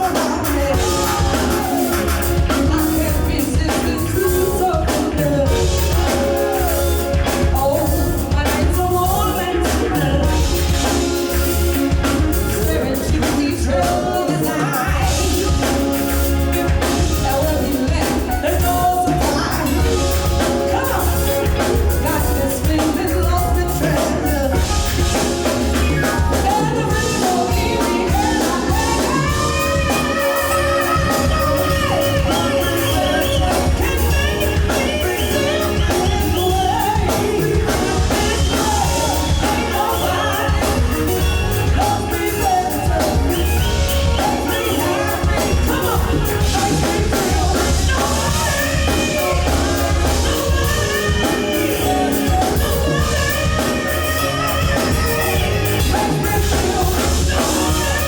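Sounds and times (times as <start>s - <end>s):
lead vocal singing: 0.0s - 58.0s
live band playing r and b: 0.0s - 58.0s.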